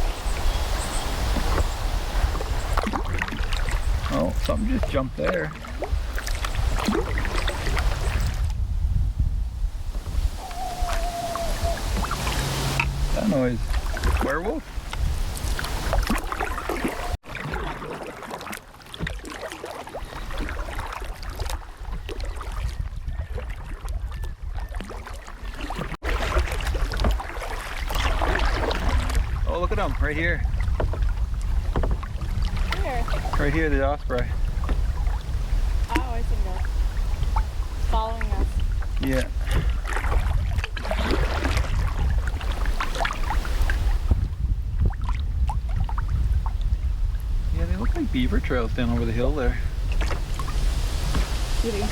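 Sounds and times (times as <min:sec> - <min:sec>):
paddle splashing water: 0:00.0 - 0:08.6, 0:09.8 - 0:46.8, 0:47.5 - 0:51.9
wind on the microphone: 0:00.0 - 0:17.2, 0:19.9 - 0:51.9.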